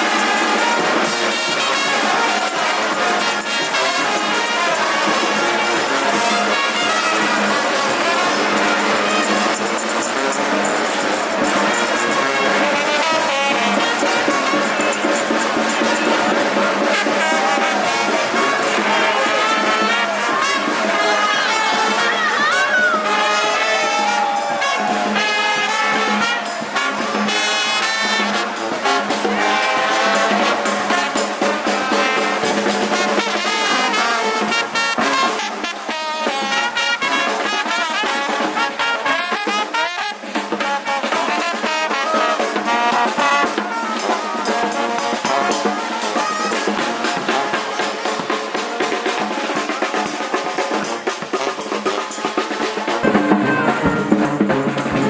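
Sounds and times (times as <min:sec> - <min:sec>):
drums: 0:00.0 - 0:55.0
trumpets and trombones playing: 0:00.0 - 0:55.0.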